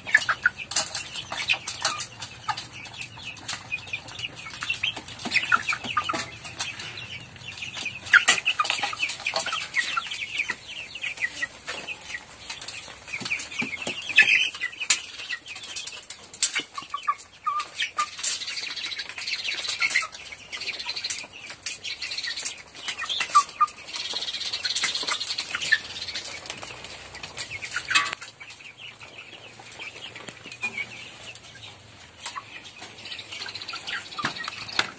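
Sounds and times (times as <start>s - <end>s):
beaks pecking feeder pans: 0.0s - 34.9s
chickens clucking and peeping: 0.0s - 34.9s.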